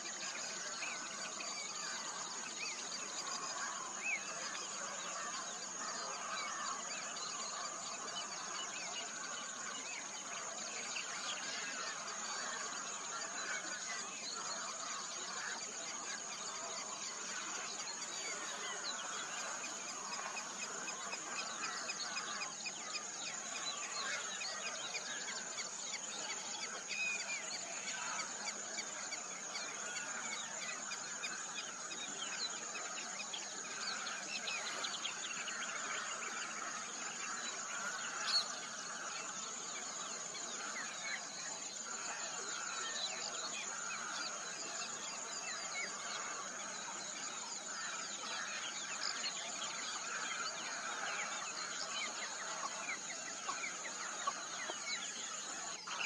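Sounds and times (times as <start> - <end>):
birds chirping and chattering: 9.1 - 56.0.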